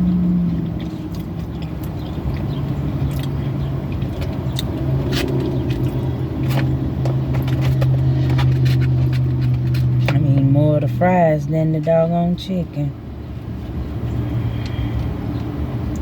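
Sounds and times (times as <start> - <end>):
car idling: 0.0 - 16.0.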